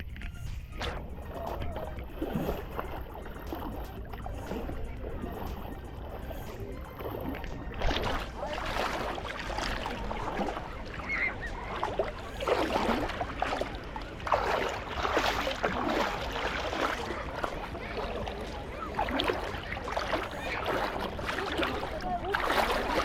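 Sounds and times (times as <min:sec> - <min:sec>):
small waves breaking on shore: 0:01.4 - 0:23.0.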